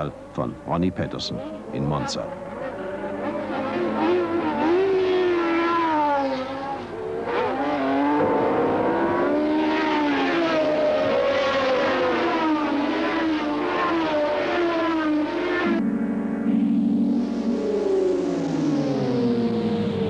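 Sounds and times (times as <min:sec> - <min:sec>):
race car engines at high revs: 0:00.0 - 0:15.8, 0:16.6 - 0:20.0.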